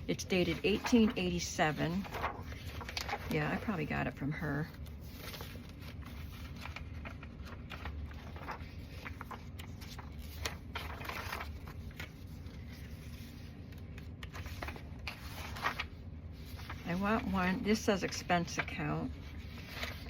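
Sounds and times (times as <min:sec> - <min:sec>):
paper rustling: 0:00.1 - 0:20.0.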